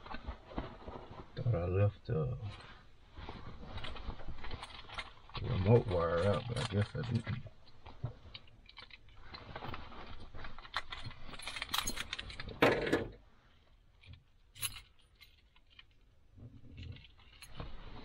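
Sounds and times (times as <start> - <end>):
metal parts clinking and rustling: 3.2 - 18.0.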